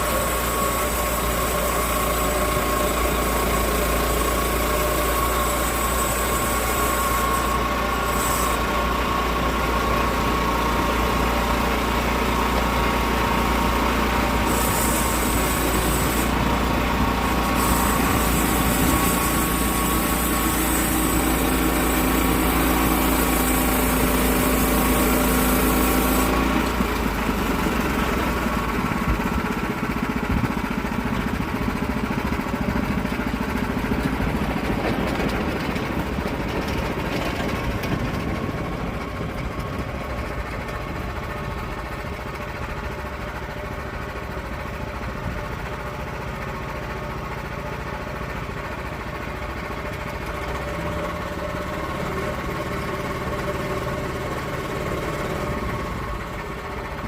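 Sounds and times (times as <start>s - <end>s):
saw engine running: 0.0s - 57.0s.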